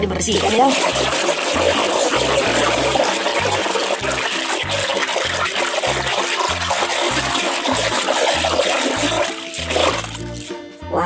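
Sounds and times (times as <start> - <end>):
background music bass line: 0.0 - 11.0
soapy water sloshing in plastic basin: 0.1 - 10.5
hand scrubbing a toy: 0.2 - 10.6.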